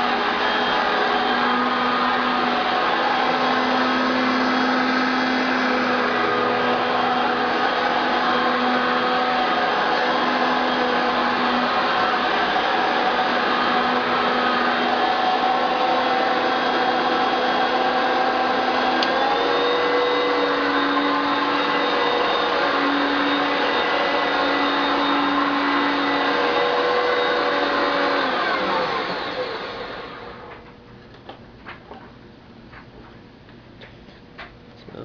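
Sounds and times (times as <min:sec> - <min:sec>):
upright vacuum cleaner running: 0:00.0 - 0:30.7.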